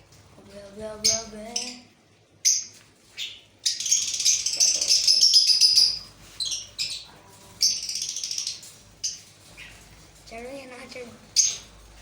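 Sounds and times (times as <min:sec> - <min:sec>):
parrots screeching and chattering: 0:01.0 - 0:10.2, 0:10.8 - 0:11.8.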